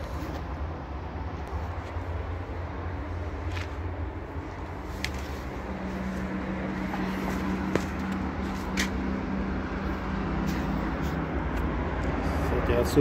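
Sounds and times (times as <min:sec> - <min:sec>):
road traffic rumble: 0:00.0 - 0:13.0
vehicle engine hum: 0:00.0 - 0:13.0.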